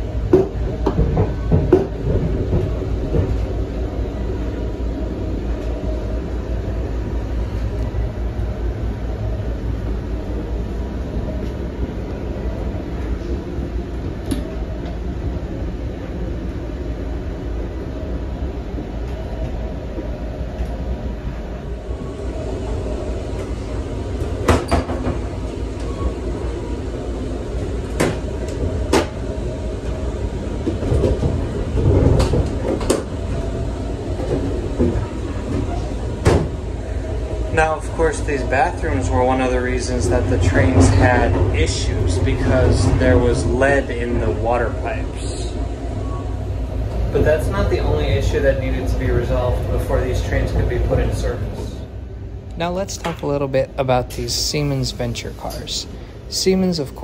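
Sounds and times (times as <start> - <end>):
train coach rumbling on track: 0.0 - 57.0.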